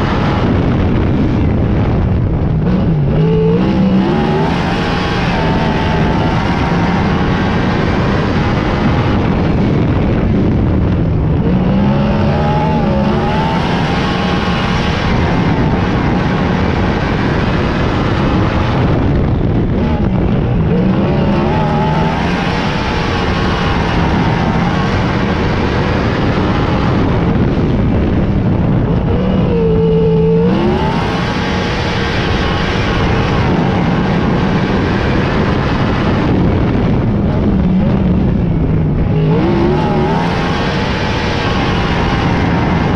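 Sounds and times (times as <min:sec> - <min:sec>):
loud single car engine: 0:00.0 - 0:42.9
race car engines: 0:00.0 - 0:42.9.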